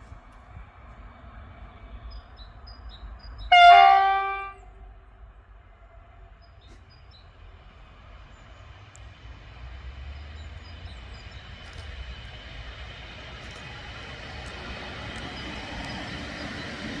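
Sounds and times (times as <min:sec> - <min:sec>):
train approaching rumble: 0:00.0 - 0:17.0.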